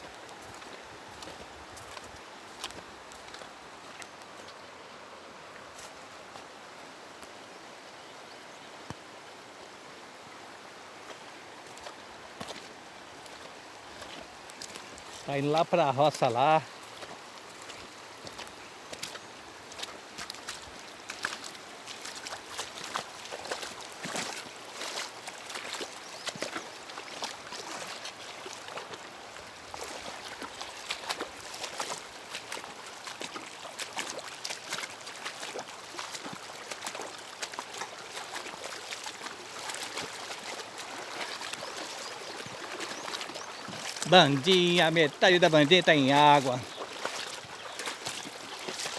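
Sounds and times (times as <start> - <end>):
water splashes and drips: 0.0 - 4.6, 8.8 - 48.9
floodwater running and trickling: 0.0 - 48.9.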